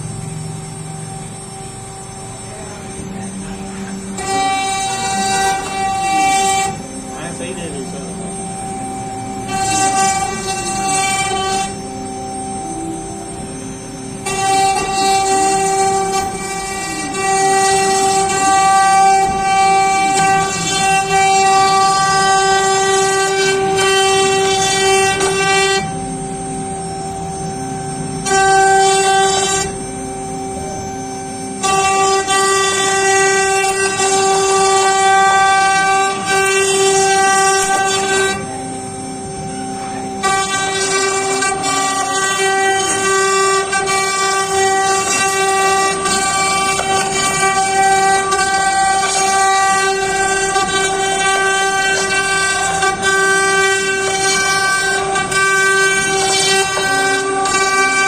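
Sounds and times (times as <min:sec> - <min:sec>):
router bit cutting wood: 0:00.0 - 0:58.0
router spindle whine: 0:00.0 - 0:58.0.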